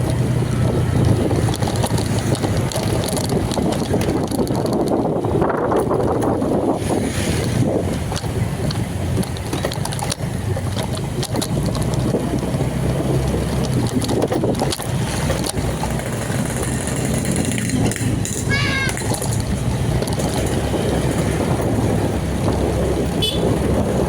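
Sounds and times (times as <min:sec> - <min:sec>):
vehicle engine hum: 0:00.0 - 0:24.0
wind buffeting microphone: 0:00.0 - 0:24.0.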